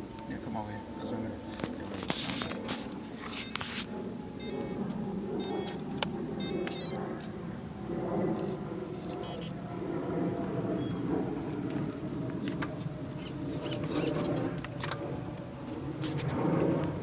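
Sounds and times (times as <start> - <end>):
powerchair motors humming: 0.0 - 17.0.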